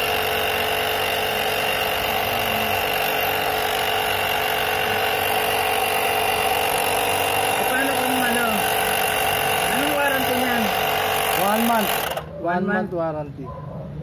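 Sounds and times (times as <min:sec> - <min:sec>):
motor drone: 0:00.0 - 0:12.3.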